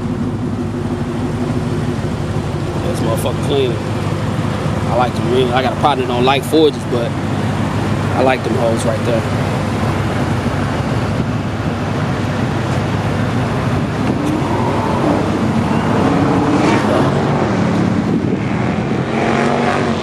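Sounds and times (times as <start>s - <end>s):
car engine idling: 0.0s - 18.4s.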